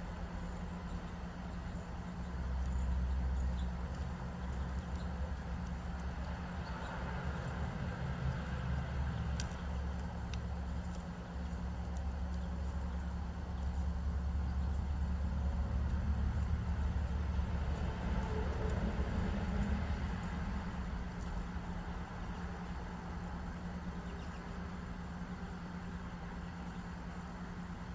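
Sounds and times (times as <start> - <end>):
distant road traffic rumble: 0.0 - 27.9.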